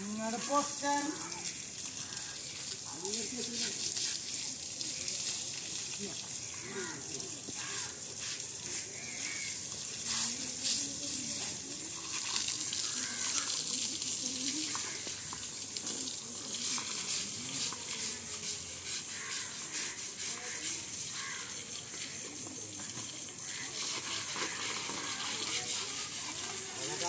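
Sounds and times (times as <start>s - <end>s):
hose water spraying and splashing: 0.0s - 27.0s.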